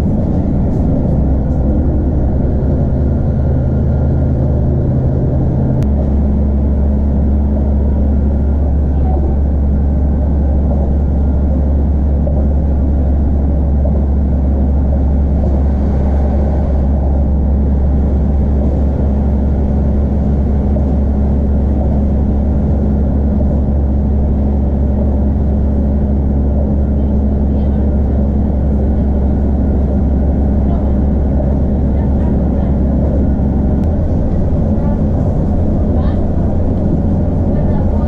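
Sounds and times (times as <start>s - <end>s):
constant hum: 0.0s - 38.0s
train engine and wheels rumbling: 0.0s - 38.0s.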